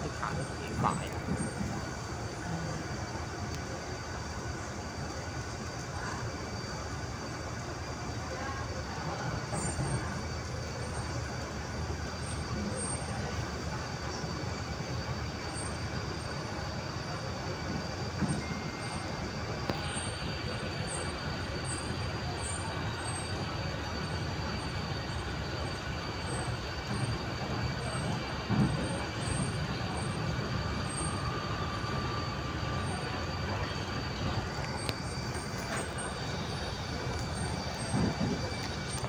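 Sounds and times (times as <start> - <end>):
train wheels rumbling: 0.0 - 39.0.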